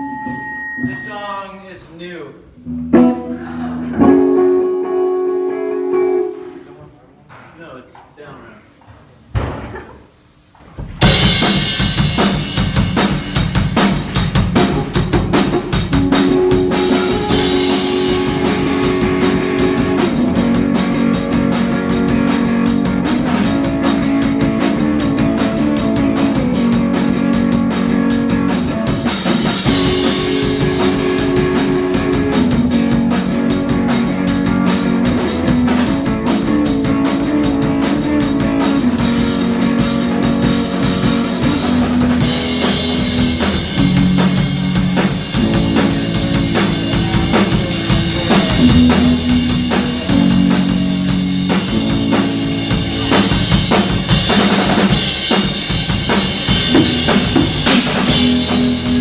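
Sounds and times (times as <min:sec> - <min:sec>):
drum kit: 0:00.0 - 0:01.9, 0:02.5 - 0:07.5, 0:09.3 - 0:59.0
bass guitar: 0:02.5 - 0:06.8, 0:10.9 - 0:59.0
electric guitar: 0:02.6 - 0:06.8, 0:11.0 - 0:59.0.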